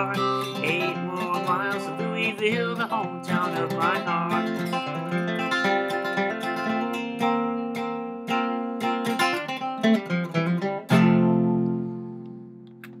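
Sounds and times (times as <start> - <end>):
strummed guitar chord ringing: 0.0 - 12.9
acoustic guitar picked notes: 0.0 - 13.0.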